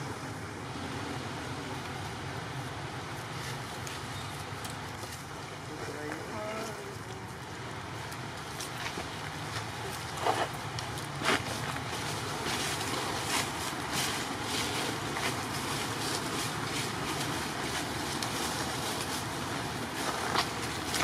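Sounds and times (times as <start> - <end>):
dry leaves crackling: 2.4 - 21.0.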